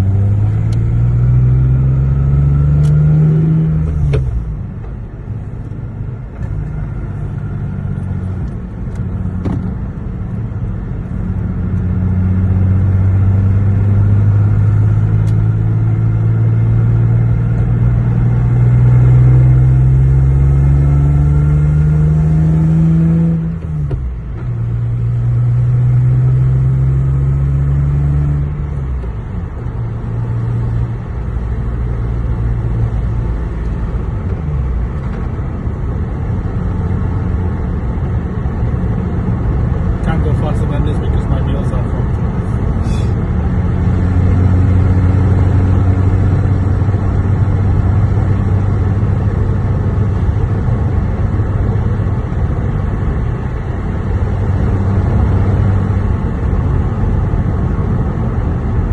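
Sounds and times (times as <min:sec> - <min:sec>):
car engine revving through gears: 0:00.0 - 0:04.5, 0:06.4 - 0:58.8.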